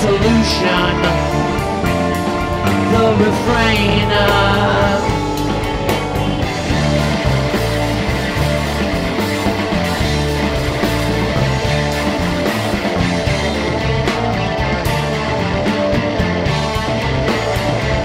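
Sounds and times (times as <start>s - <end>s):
bass guitar: 0.0s - 18.0s
distorted guitars: 0.0s - 18.0s
steady drums: 0.0s - 18.0s.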